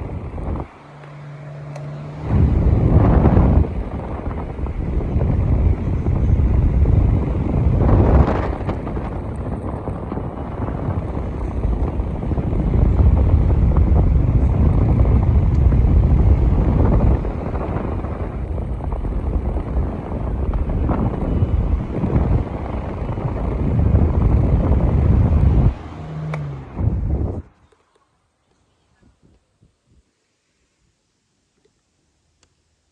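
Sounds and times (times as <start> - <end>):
fan wind buffeting microphone: 0.0 - 27.7.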